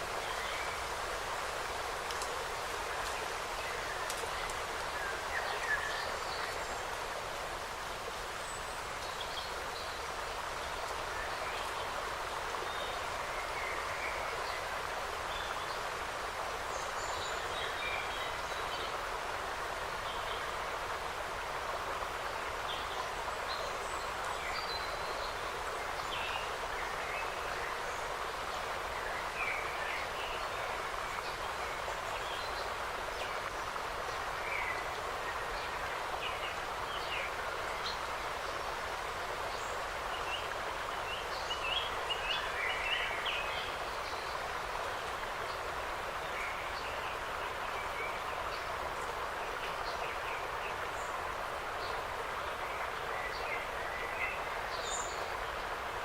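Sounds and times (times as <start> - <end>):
wind through trees and leaves: 0.0 - 56.0.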